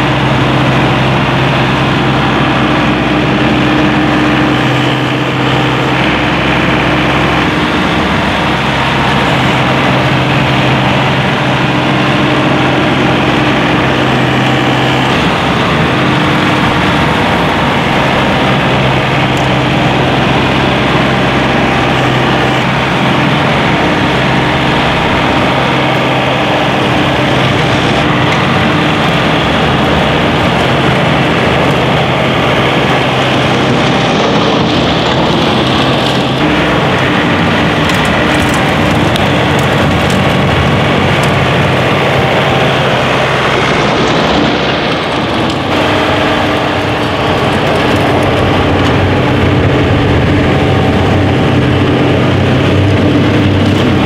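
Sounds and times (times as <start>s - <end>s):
snowblower throwing snow: 0.0s - 54.0s
tractor diesel engine running: 0.0s - 54.0s.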